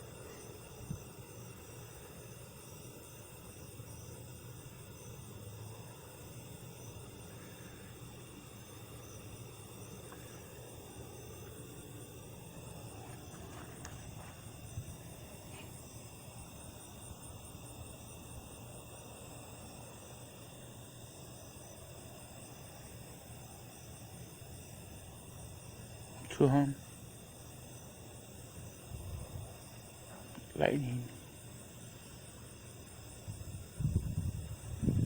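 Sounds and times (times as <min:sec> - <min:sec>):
crickets chirring: 0:00.0 - 0:35.0.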